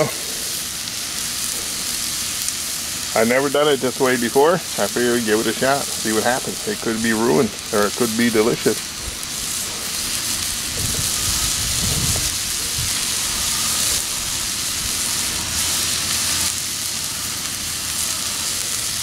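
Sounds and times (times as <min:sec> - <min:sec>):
steak sizzling on a griddle: 0:00.0 - 0:19.0.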